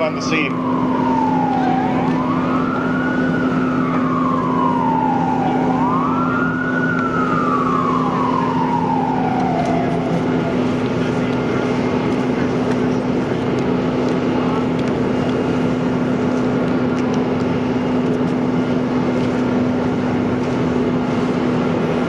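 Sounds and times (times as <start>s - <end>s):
ambulance siren wailing: 0.0s - 22.0s.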